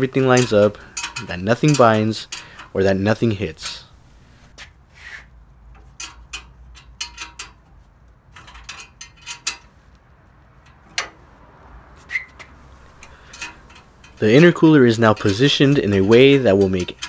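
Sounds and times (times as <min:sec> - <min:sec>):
light metallic clicks and taps: 0:00.1 - 0:02.8, 0:05.7 - 0:17.0.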